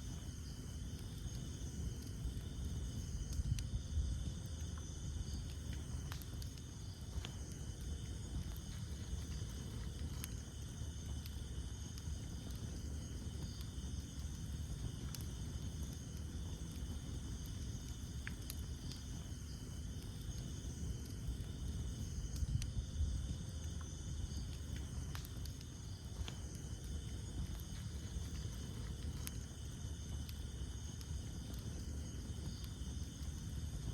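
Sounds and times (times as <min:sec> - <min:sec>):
campfire flames rumbling: 0:00.0 - 0:33.9
fire crackles: 0:00.0 - 0:33.9
insect chorus: 0:00.0 - 0:33.9.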